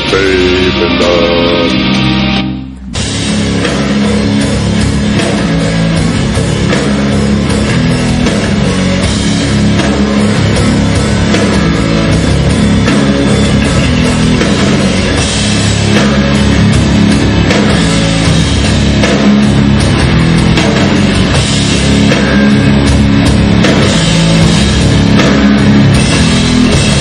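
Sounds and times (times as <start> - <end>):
hard rock band playing: 0.0 - 27.0.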